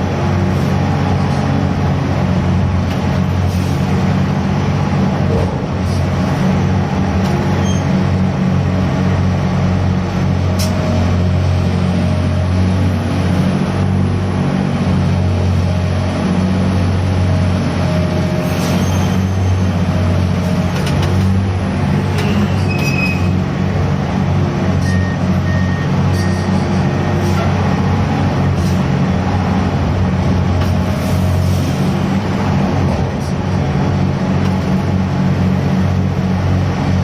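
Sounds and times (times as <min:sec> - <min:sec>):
crane machinery humming: 0:00.0 - 0:37.0.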